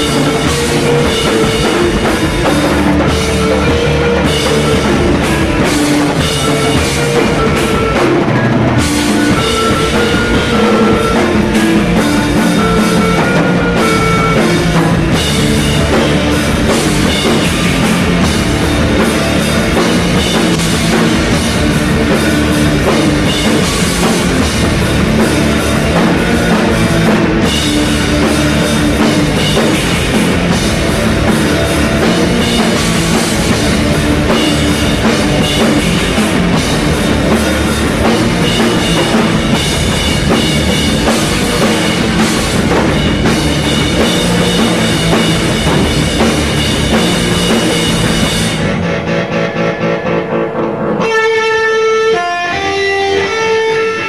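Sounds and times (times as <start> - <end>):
drum kit: 0.0 - 54.0
electric guitars: 0.0 - 54.0
rock band playing live: 0.0 - 54.0.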